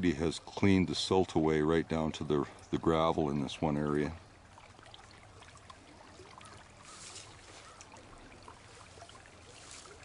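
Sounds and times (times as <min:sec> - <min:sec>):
creek trickling over gravel: 0:00.0 - 0:10.0.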